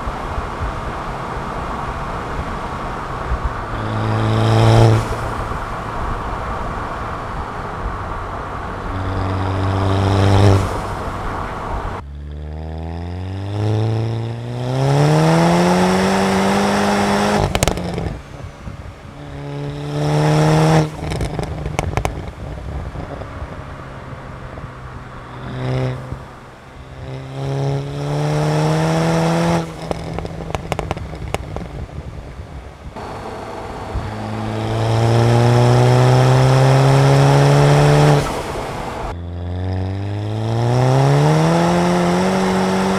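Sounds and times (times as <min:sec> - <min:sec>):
car engine accelerating hard: 0:00.0 - 0:42.9
exhaust cracks: 0:00.0 - 0:42.9.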